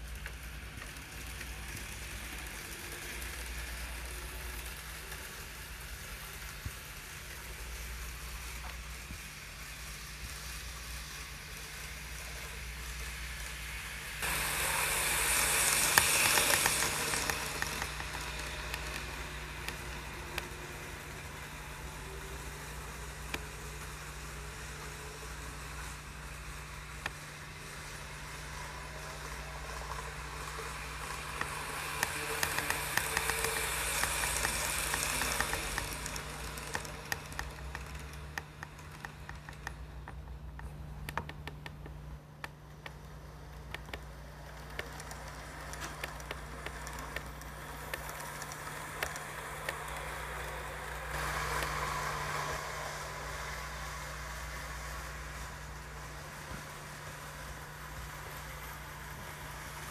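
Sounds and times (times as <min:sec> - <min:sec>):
small electric motors whirring: 0:00.0 - 0:59.9
wheels clicking over track joints: 0:10.2 - 0:59.9.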